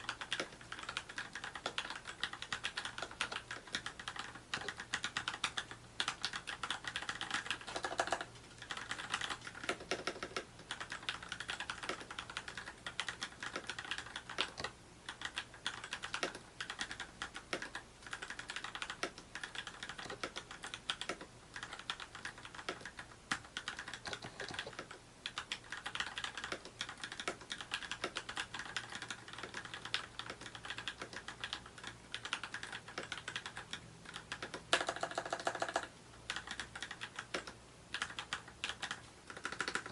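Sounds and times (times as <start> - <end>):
mechanical keyboard keystrokes clacking: 0.0 - 39.9.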